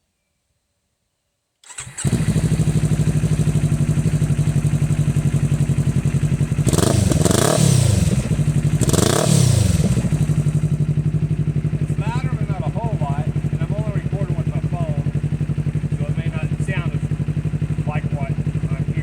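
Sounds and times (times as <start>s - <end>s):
motorcycle engine idling and revving: 1.7s - 19.0s.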